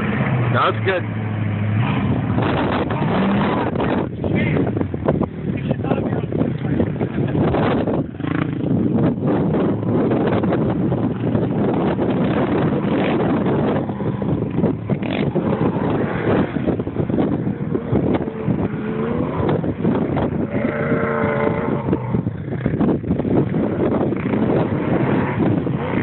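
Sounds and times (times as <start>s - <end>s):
truck engine running rough: 0.0s - 26.0s
wind on microphone: 0.0s - 26.0s.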